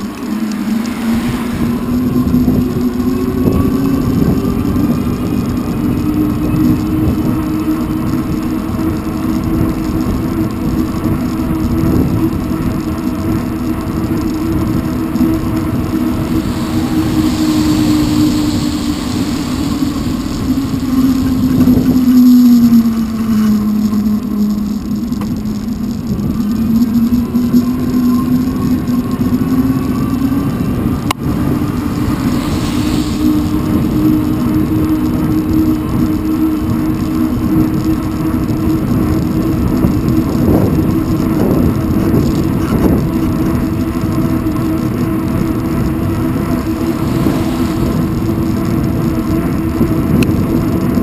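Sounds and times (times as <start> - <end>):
steady motor hum: 0.0 - 51.0
tyre noise on wet road: 0.0 - 51.0
wind buffeting microphone: 0.0 - 51.0.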